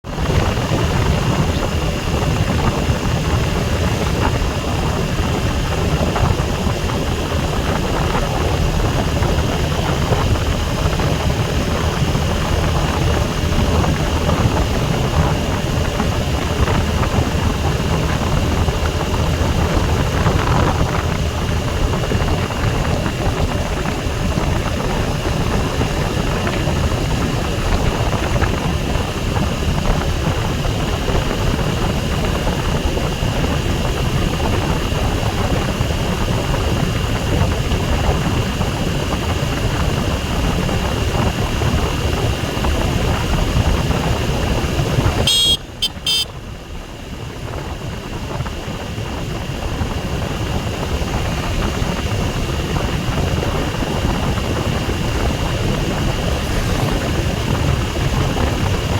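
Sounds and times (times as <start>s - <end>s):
motorcycle engine and road rush: 0.0s - 58.9s.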